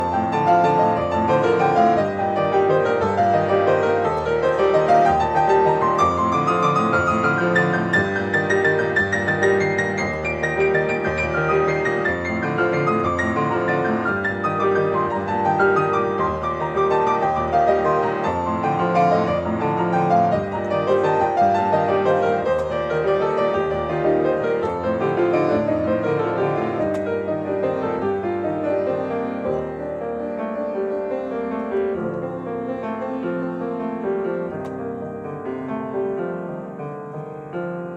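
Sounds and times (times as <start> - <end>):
gentle piano arpeggios: 0.0 - 37.9.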